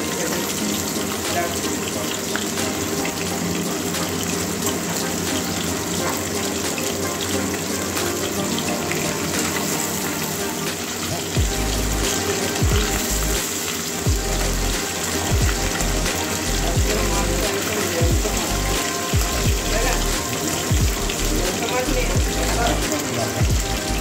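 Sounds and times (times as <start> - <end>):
fish sizzling in oil: 0.0 - 24.0.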